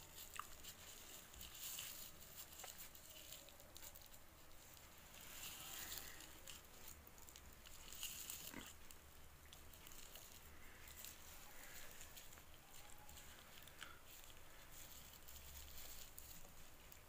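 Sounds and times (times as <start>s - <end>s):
plastic crinkling and rustling: 0.0s - 17.0s.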